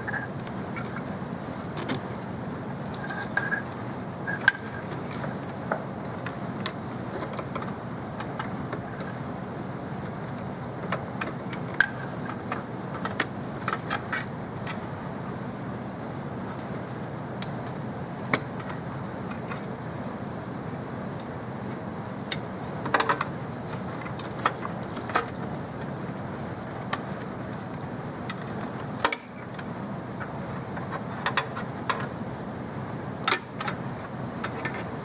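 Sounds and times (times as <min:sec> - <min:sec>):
steady background hum: 0:00.0 - 0:35.0.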